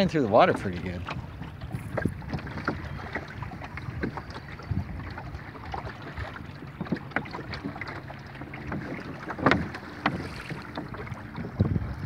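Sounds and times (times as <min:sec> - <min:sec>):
wind on microphone: 0:00.0 - 0:07.8, 0:08.6 - 0:12.0
water splashing against hull: 0:00.0 - 0:12.0.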